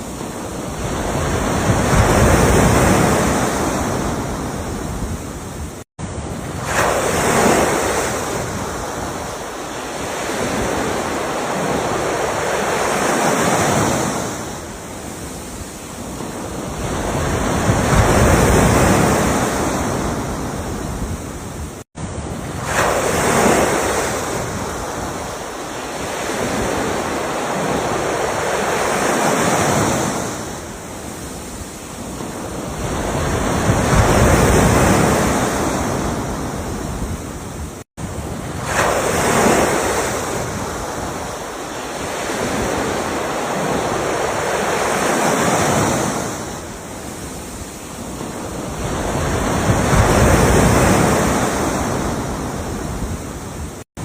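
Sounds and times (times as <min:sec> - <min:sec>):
ocean waves washing in: 0:00.0 - 0:54.0.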